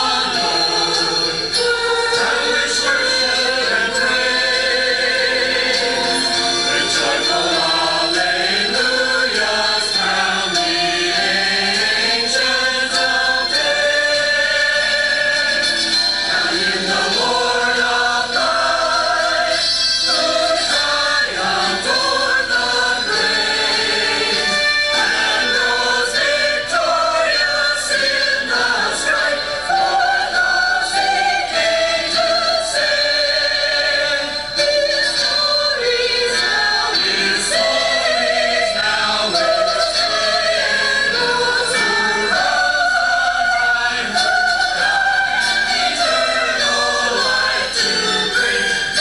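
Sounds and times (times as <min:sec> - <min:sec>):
church choir singing: 0:00.0 - 0:49.0.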